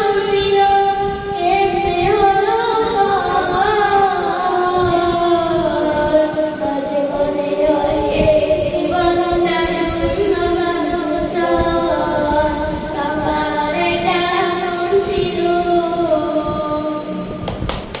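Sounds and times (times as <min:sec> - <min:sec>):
girl singing unaccompanied: 0:00.0 - 0:17.7.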